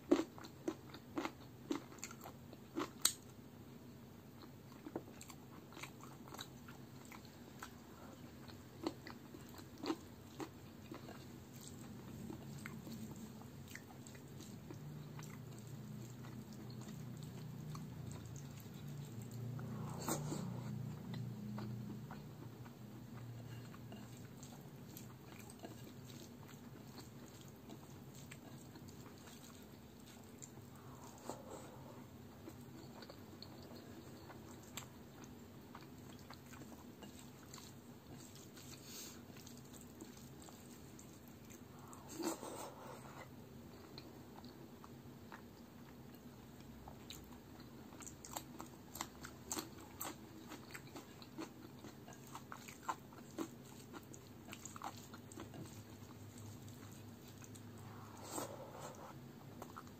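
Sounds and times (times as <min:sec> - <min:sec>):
chewing: 0:00.0 - 0:03.4, 0:04.4 - 0:59.9.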